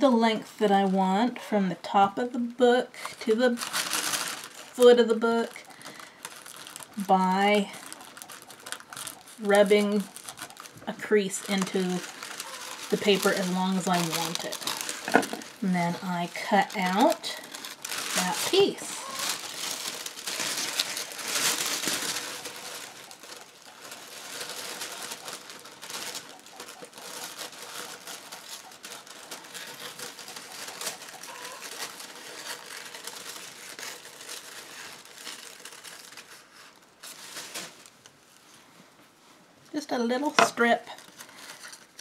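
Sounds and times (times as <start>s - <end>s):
tissue paper rustling: 3.4s - 38.8s, 40.3s - 42.0s.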